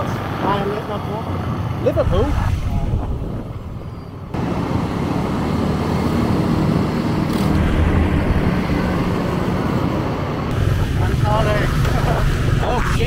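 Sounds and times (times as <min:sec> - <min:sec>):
road and traffic rumble: 0:00.0 - 0:13.0.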